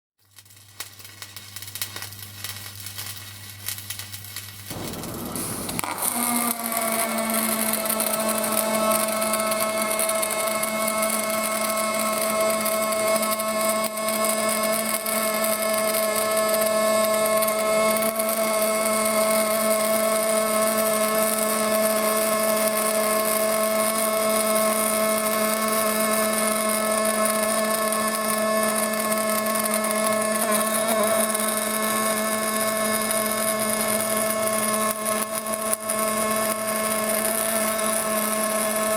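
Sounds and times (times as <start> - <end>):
welding arc buzzing and crackling: 0.3 - 38.9.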